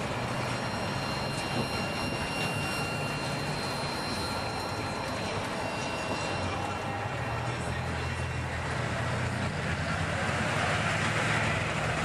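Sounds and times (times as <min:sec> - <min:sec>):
car engines running: 0:00.0 - 0:12.0
tyres driving over railroad tracks: 0:00.0 - 0:12.0.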